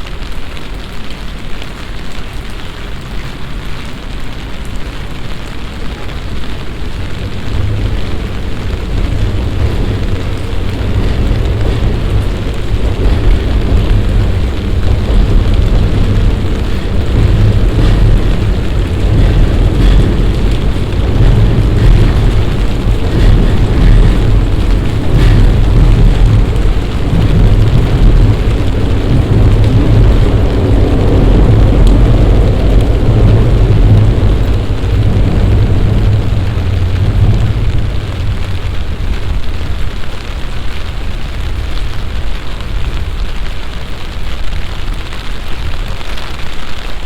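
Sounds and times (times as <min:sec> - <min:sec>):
heavy rain: 0:00.0 - 0:47.0
deep rumble: 0:04.0 - 0:46.5.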